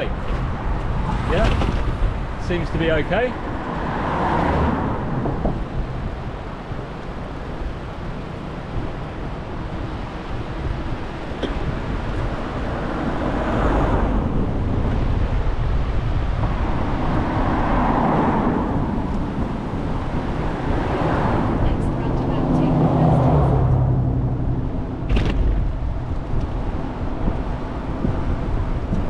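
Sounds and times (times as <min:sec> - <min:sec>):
steady low rumble: 0:00.0 - 0:29.0
vehicles passing: 0:00.0 - 0:29.0.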